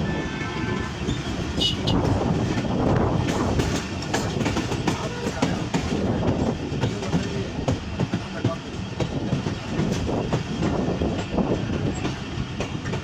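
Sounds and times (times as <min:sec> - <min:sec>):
train coach rumble: 0:00.0 - 0:13.0
wheels clicking over rail joints: 0:01.4 - 0:13.0.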